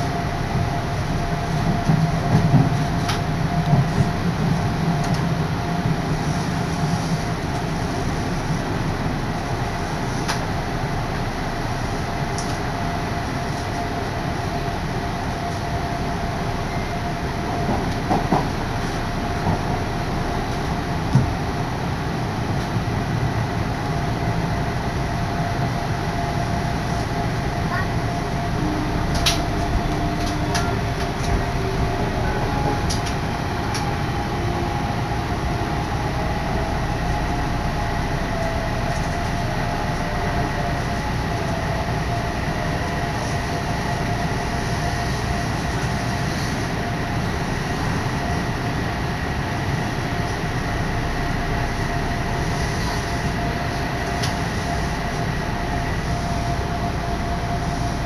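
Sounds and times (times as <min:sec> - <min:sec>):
constant hum: 0:00.0 - 0:58.0
train wheels rumbling on rail: 0:00.0 - 0:58.0.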